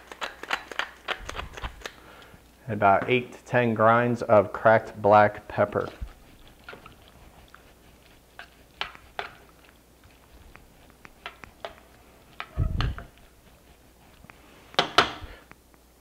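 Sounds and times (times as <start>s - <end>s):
pasta squishing in sauce: 0.0s - 2.7s, 5.2s - 15.5s.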